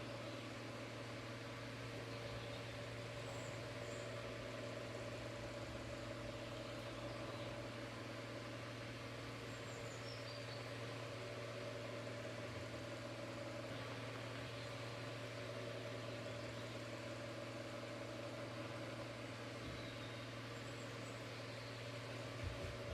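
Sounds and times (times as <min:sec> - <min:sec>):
electric fan running: 0:00.0 - 0:22.9.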